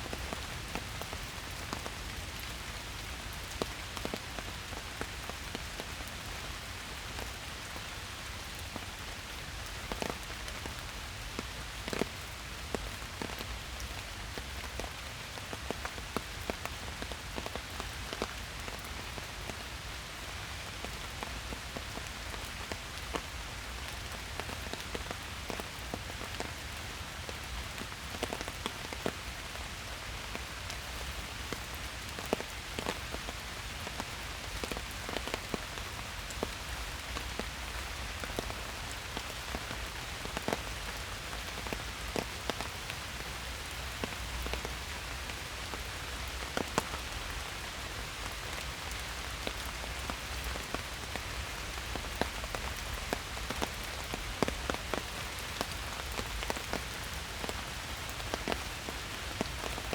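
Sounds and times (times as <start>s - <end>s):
raindrops pattering close by: 0.0s - 59.9s
steady rain hiss: 0.0s - 59.9s.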